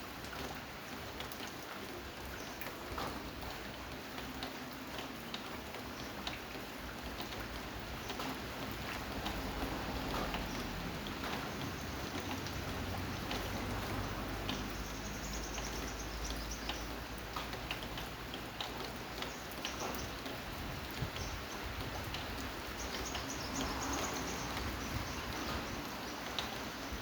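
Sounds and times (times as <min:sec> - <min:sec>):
rain falling: 0:00.0 - 0:27.0
drops ticking on a surface: 0:03.0 - 0:26.7.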